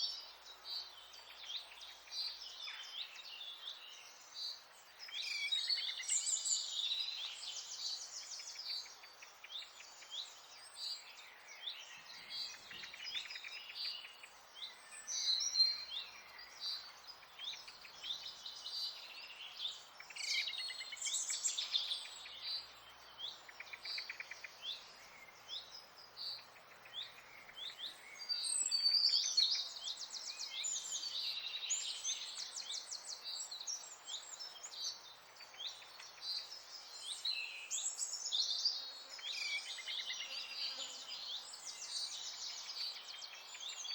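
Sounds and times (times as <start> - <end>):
birds singing and chirping: 0.0 - 43.9.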